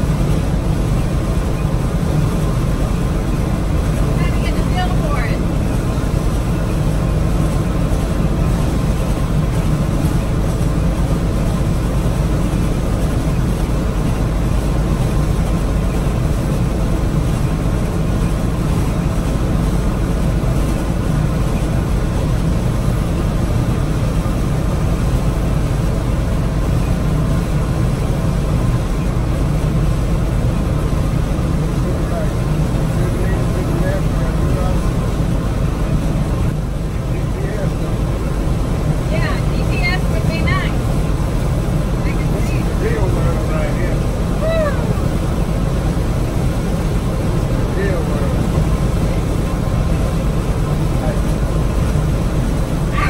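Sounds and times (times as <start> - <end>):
combine engine drone: 0.0 - 53.0.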